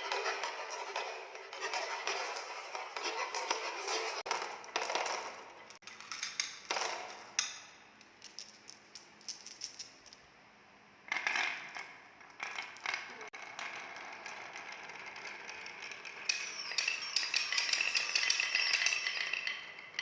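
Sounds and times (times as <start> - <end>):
marbles clattering on wooden track: 0.0 - 10.2, 11.1 - 20.0.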